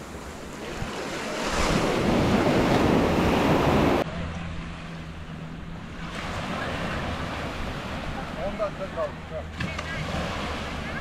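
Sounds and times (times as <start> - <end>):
sea surf washing in: 0.0 - 4.0, 5.9 - 11.0
wind and water: 0.0 - 11.0.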